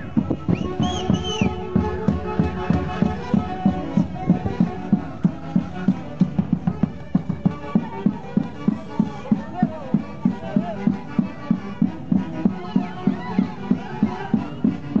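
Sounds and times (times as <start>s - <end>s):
folk orchestra playing dance tune: 0.0s - 15.0s.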